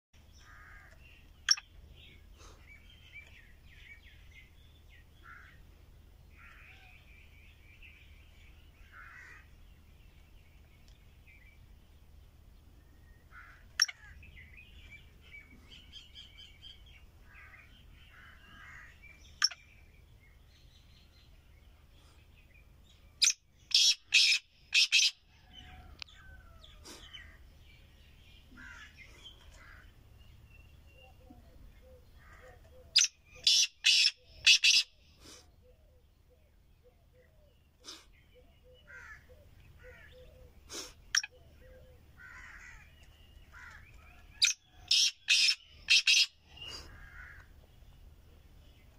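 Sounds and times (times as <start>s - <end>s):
small birds chirping: 0.2s - 48.9s.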